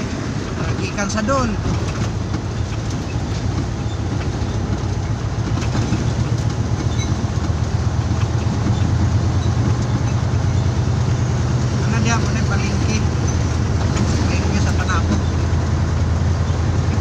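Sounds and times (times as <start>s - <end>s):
road noise: 0.0s - 17.0s
truck engine droning: 0.0s - 17.0s.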